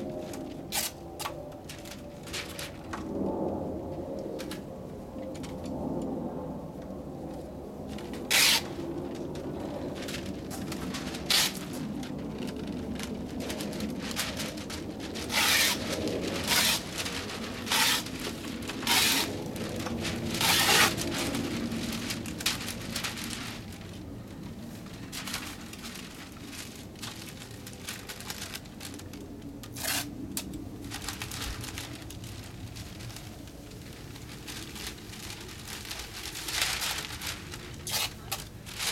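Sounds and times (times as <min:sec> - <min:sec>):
paper crinkling: 0:00.0 - 0:03.2, 0:07.9 - 0:38.9
low background noise: 0:00.0 - 0:38.9
masking tape ripping: 0:00.2 - 0:02.8, 0:08.2 - 0:23.9, 0:25.0 - 0:38.9.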